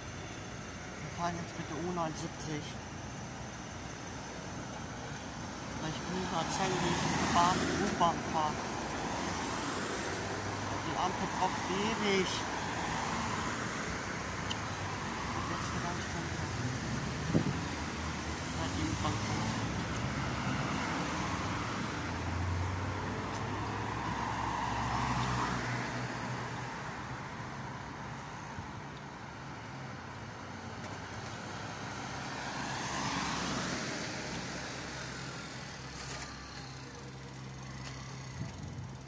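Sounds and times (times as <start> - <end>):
vehicles passing by: 0.0 - 39.0.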